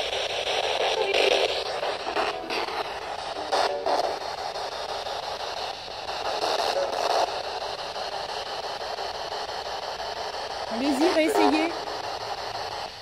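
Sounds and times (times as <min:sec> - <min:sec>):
steady static hiss: 0:00.0 - 0:13.0.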